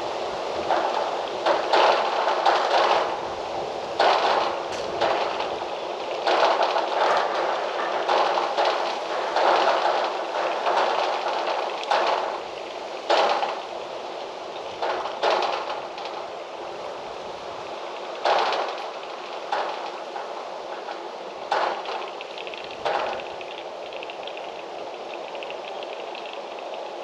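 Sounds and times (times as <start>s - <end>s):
wind rustling through trees: 0.0s - 27.0s.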